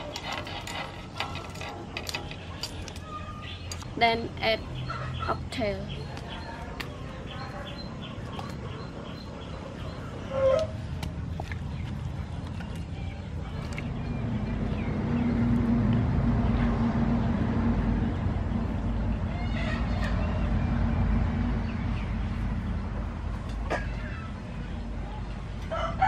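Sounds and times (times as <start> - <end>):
low rumble with hum: 0.0 - 26.0.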